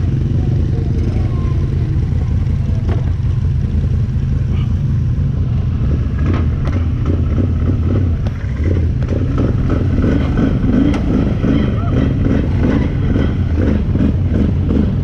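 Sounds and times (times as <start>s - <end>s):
off-road vehicle engine rumbling: 0.0s - 15.0s.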